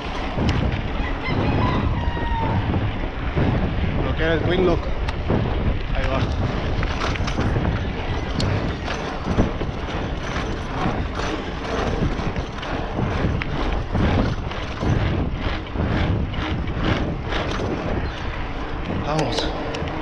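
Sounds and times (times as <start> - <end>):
bike clicks and rattles: 0.0 - 20.0
bike tyre rumble on asphalt: 0.0 - 20.0.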